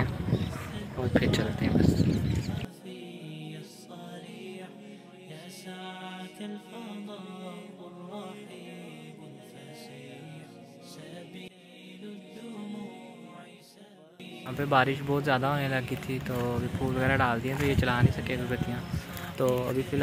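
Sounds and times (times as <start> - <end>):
voice chanting devotional melody: 0.0 - 20.0.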